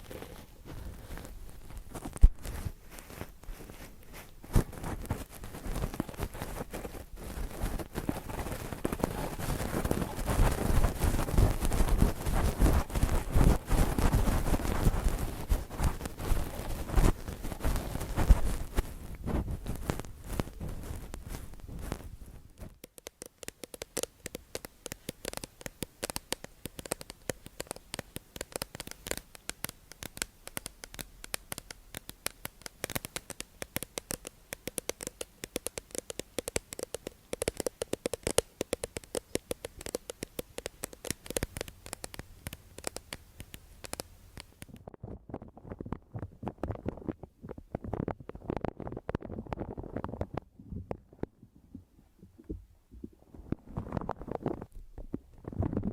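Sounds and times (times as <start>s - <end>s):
crisp clicks and scratches: 0.0s - 51.3s, 53.5s - 55.9s.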